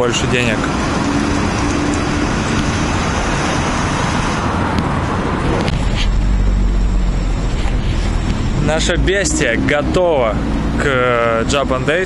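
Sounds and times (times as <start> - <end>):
road traffic hiss and rumble: 0.0 - 12.0.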